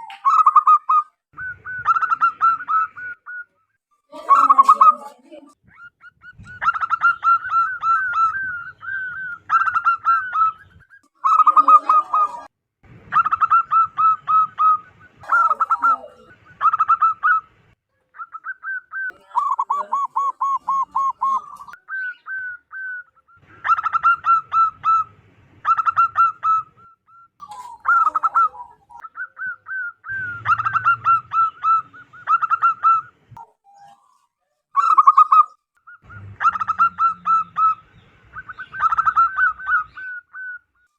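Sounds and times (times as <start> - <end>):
dove cooing: 0.0 - 3.6, 4.2 - 5.2, 6.0 - 12.5, 13.1 - 17.5, 18.2 - 40.9.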